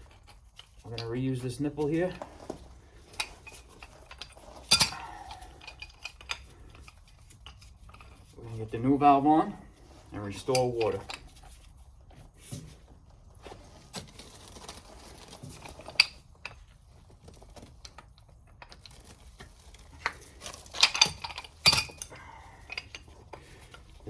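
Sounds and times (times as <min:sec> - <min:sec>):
metal tools clinking: 0:00.0 - 0:11.8, 0:14.8 - 0:24.0.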